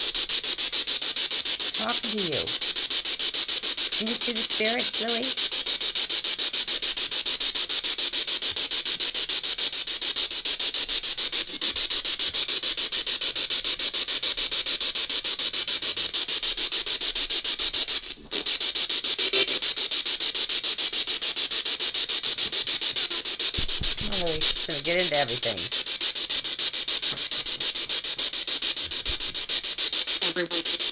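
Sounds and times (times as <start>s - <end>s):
radio static pulsing: 1.5s - 7.1s, 7.8s - 30.9s.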